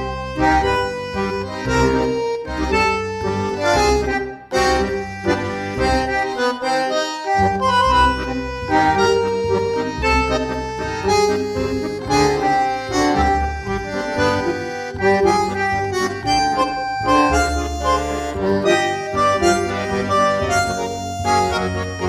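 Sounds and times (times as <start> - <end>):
instrumental background music: 0.0 - 22.0.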